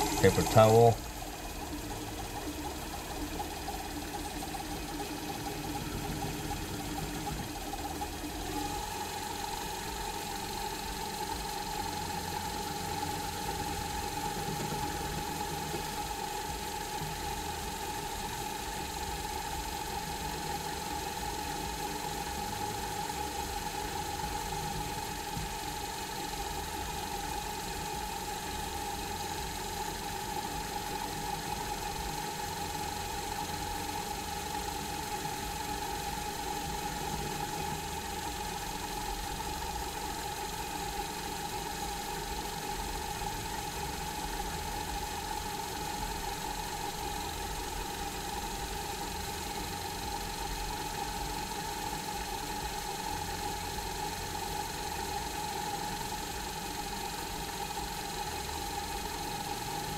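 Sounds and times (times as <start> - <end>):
lathe motor humming: 0.0 - 59.9.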